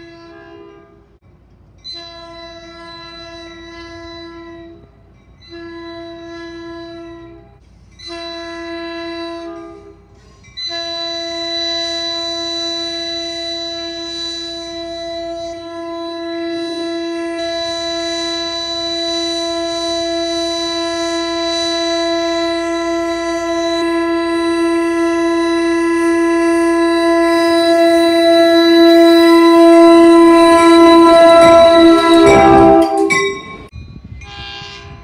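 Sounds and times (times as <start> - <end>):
train horn: 0.0 - 1.2, 1.9 - 35.0.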